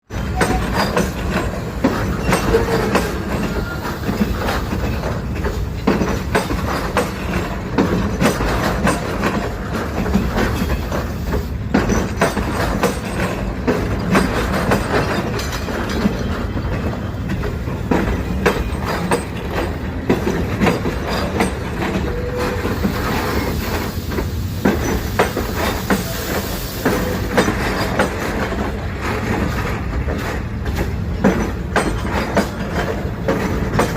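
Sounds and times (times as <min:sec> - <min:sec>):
train rumbling on track: 0:00.0 - 0:33.9
wheel clicks over rail joints: 0:00.1 - 0:23.4, 0:26.8 - 0:33.9.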